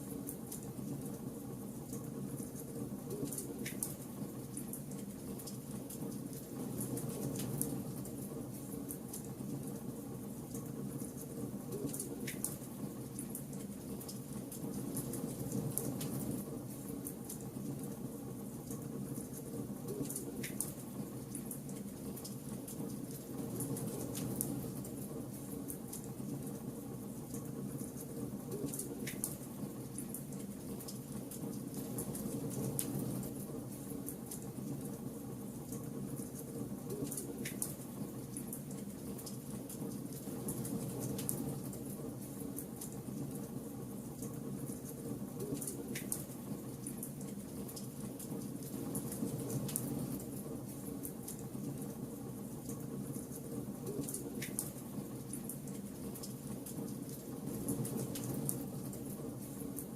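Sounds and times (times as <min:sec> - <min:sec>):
wood fire crackling: 0:01.8 - 0:59.9.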